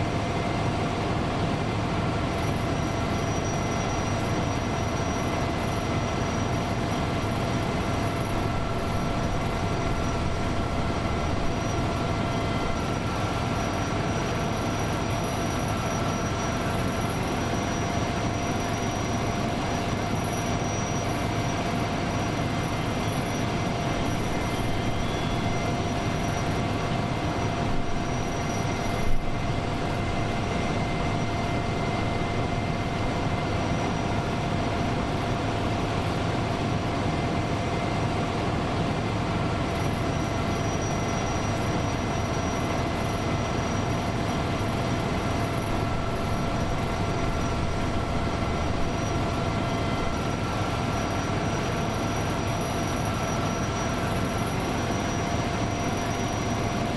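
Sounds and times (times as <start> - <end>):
mechanical running noise with whine: 0.0 - 56.9.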